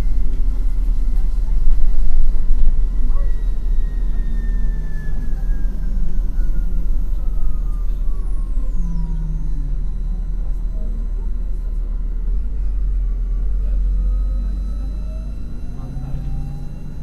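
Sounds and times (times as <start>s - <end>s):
electric drive whine: 0.0s - 17.0s
low rumble of moving bus: 0.0s - 17.0s.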